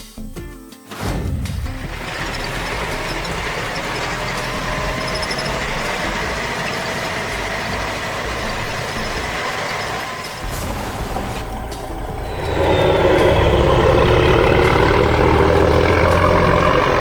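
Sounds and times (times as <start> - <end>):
heavy vehicle engine running: 1.3 - 17.0
faint whine: 1.5 - 17.0.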